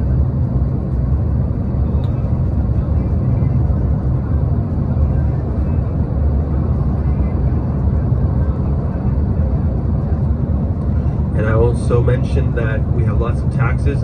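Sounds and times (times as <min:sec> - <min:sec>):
vehicle road and engine rumble: 0:00.0 - 0:14.0.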